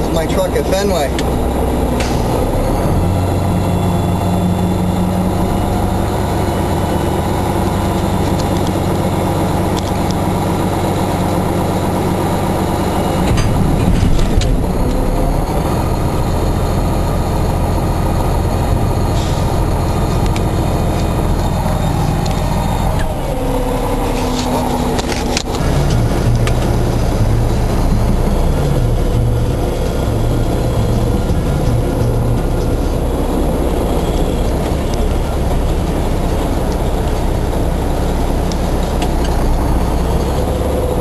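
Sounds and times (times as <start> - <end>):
truck engine drone: 0.0 - 41.0.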